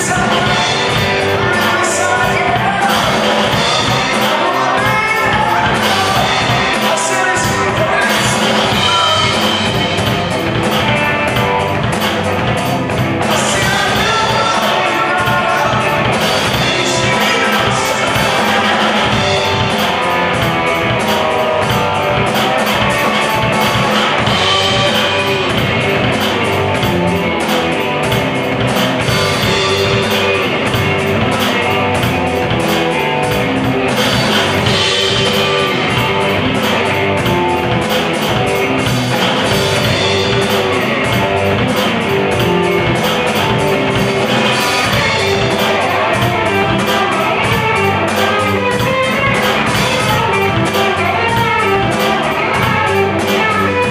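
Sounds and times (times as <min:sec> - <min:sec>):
bass guitar: 0:00.0 - 0:53.9
drum kit with cymbals: 0:00.0 - 0:53.9
electric guitar: 0:00.0 - 0:53.9.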